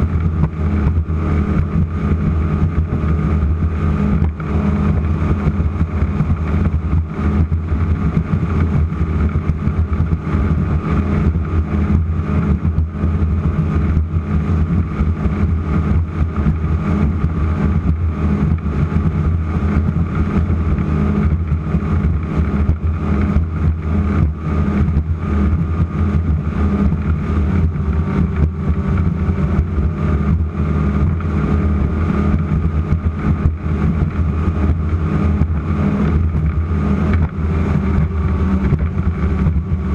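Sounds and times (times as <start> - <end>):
powerboat engines droning: 0.0 - 39.9
wind and water flutter: 0.0 - 39.9.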